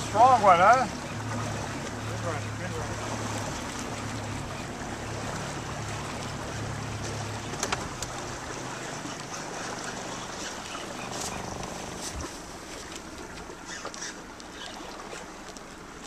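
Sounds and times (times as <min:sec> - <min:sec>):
boat motor idling: 0:00.0 - 0:16.0
water: 0:00.0 - 0:16.0
wind: 0:00.0 - 0:16.0.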